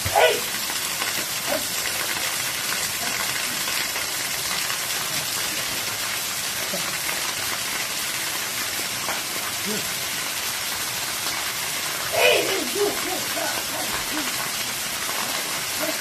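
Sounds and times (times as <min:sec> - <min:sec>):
waterfall splashing: 0:00.0 - 0:16.0.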